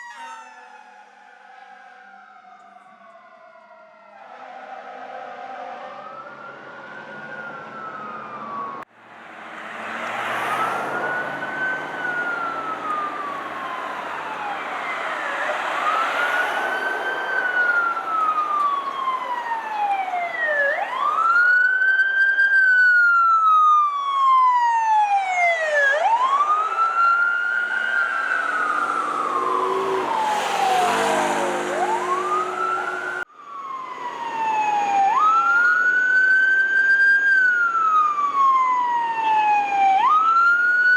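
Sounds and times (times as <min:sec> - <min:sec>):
emergency siren wailing: 0:00.0 - 0:40.9
engine and road noise: 0:00.0 - 0:40.9.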